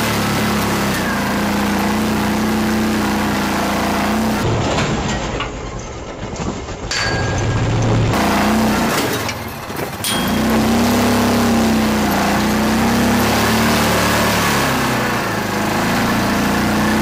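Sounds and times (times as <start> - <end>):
utility vehicle engine droning: 0.0 - 17.0.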